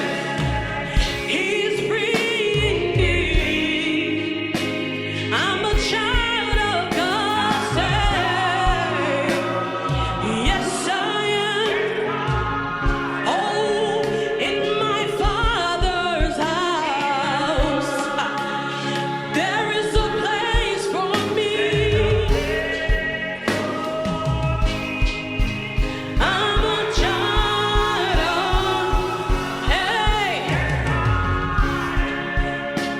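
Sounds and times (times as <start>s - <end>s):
drums keeping beat: 0.0s - 13.3s, 14.0s - 32.9s
keyboard: 0.0s - 32.9s
lead singer and choir: 0.0s - 32.9s.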